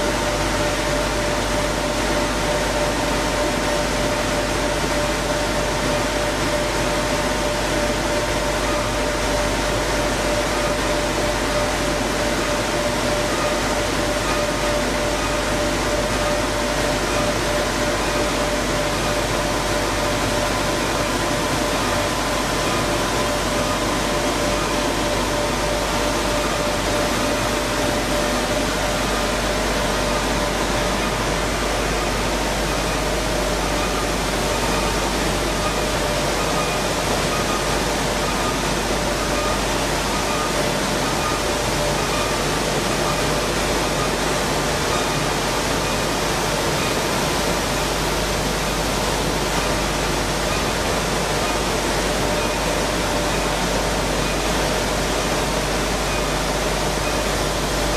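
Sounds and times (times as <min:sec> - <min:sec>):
milling machinery running: 0:00.0 - 0:57.9.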